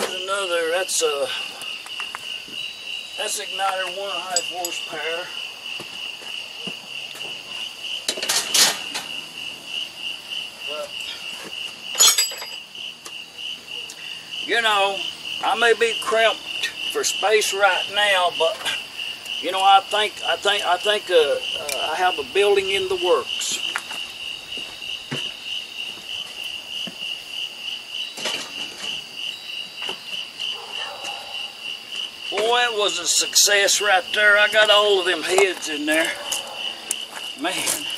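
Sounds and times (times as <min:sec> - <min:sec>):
shrill insect chorus: 0:00.0 - 0:37.9.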